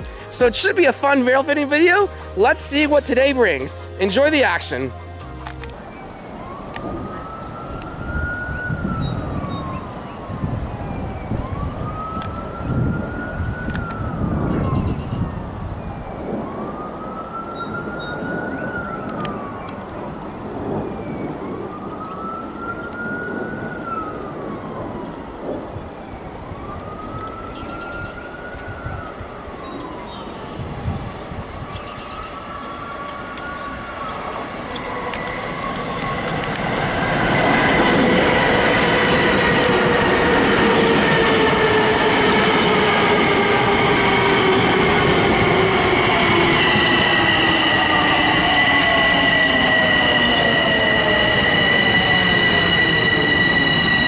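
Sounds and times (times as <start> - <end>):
emergency siren wailing: 0.0 - 54.0.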